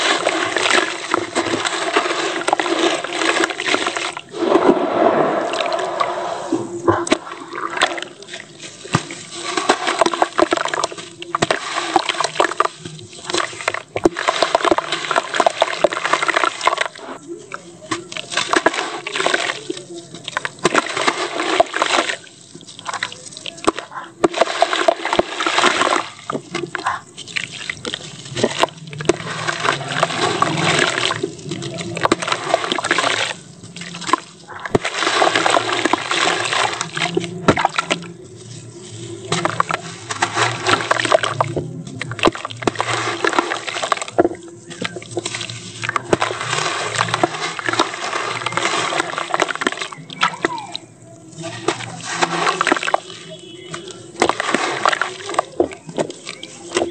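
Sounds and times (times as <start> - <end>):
gritty crumbling of wet cement: 0.0 - 6.0, 6.8 - 56.9
water sloshing and trickling: 0.0 - 56.9.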